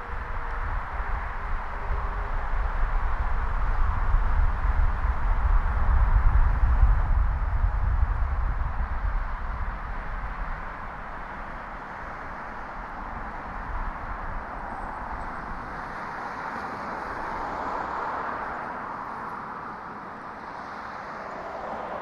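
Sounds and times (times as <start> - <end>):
traffic and road noise: 0.0 - 22.0.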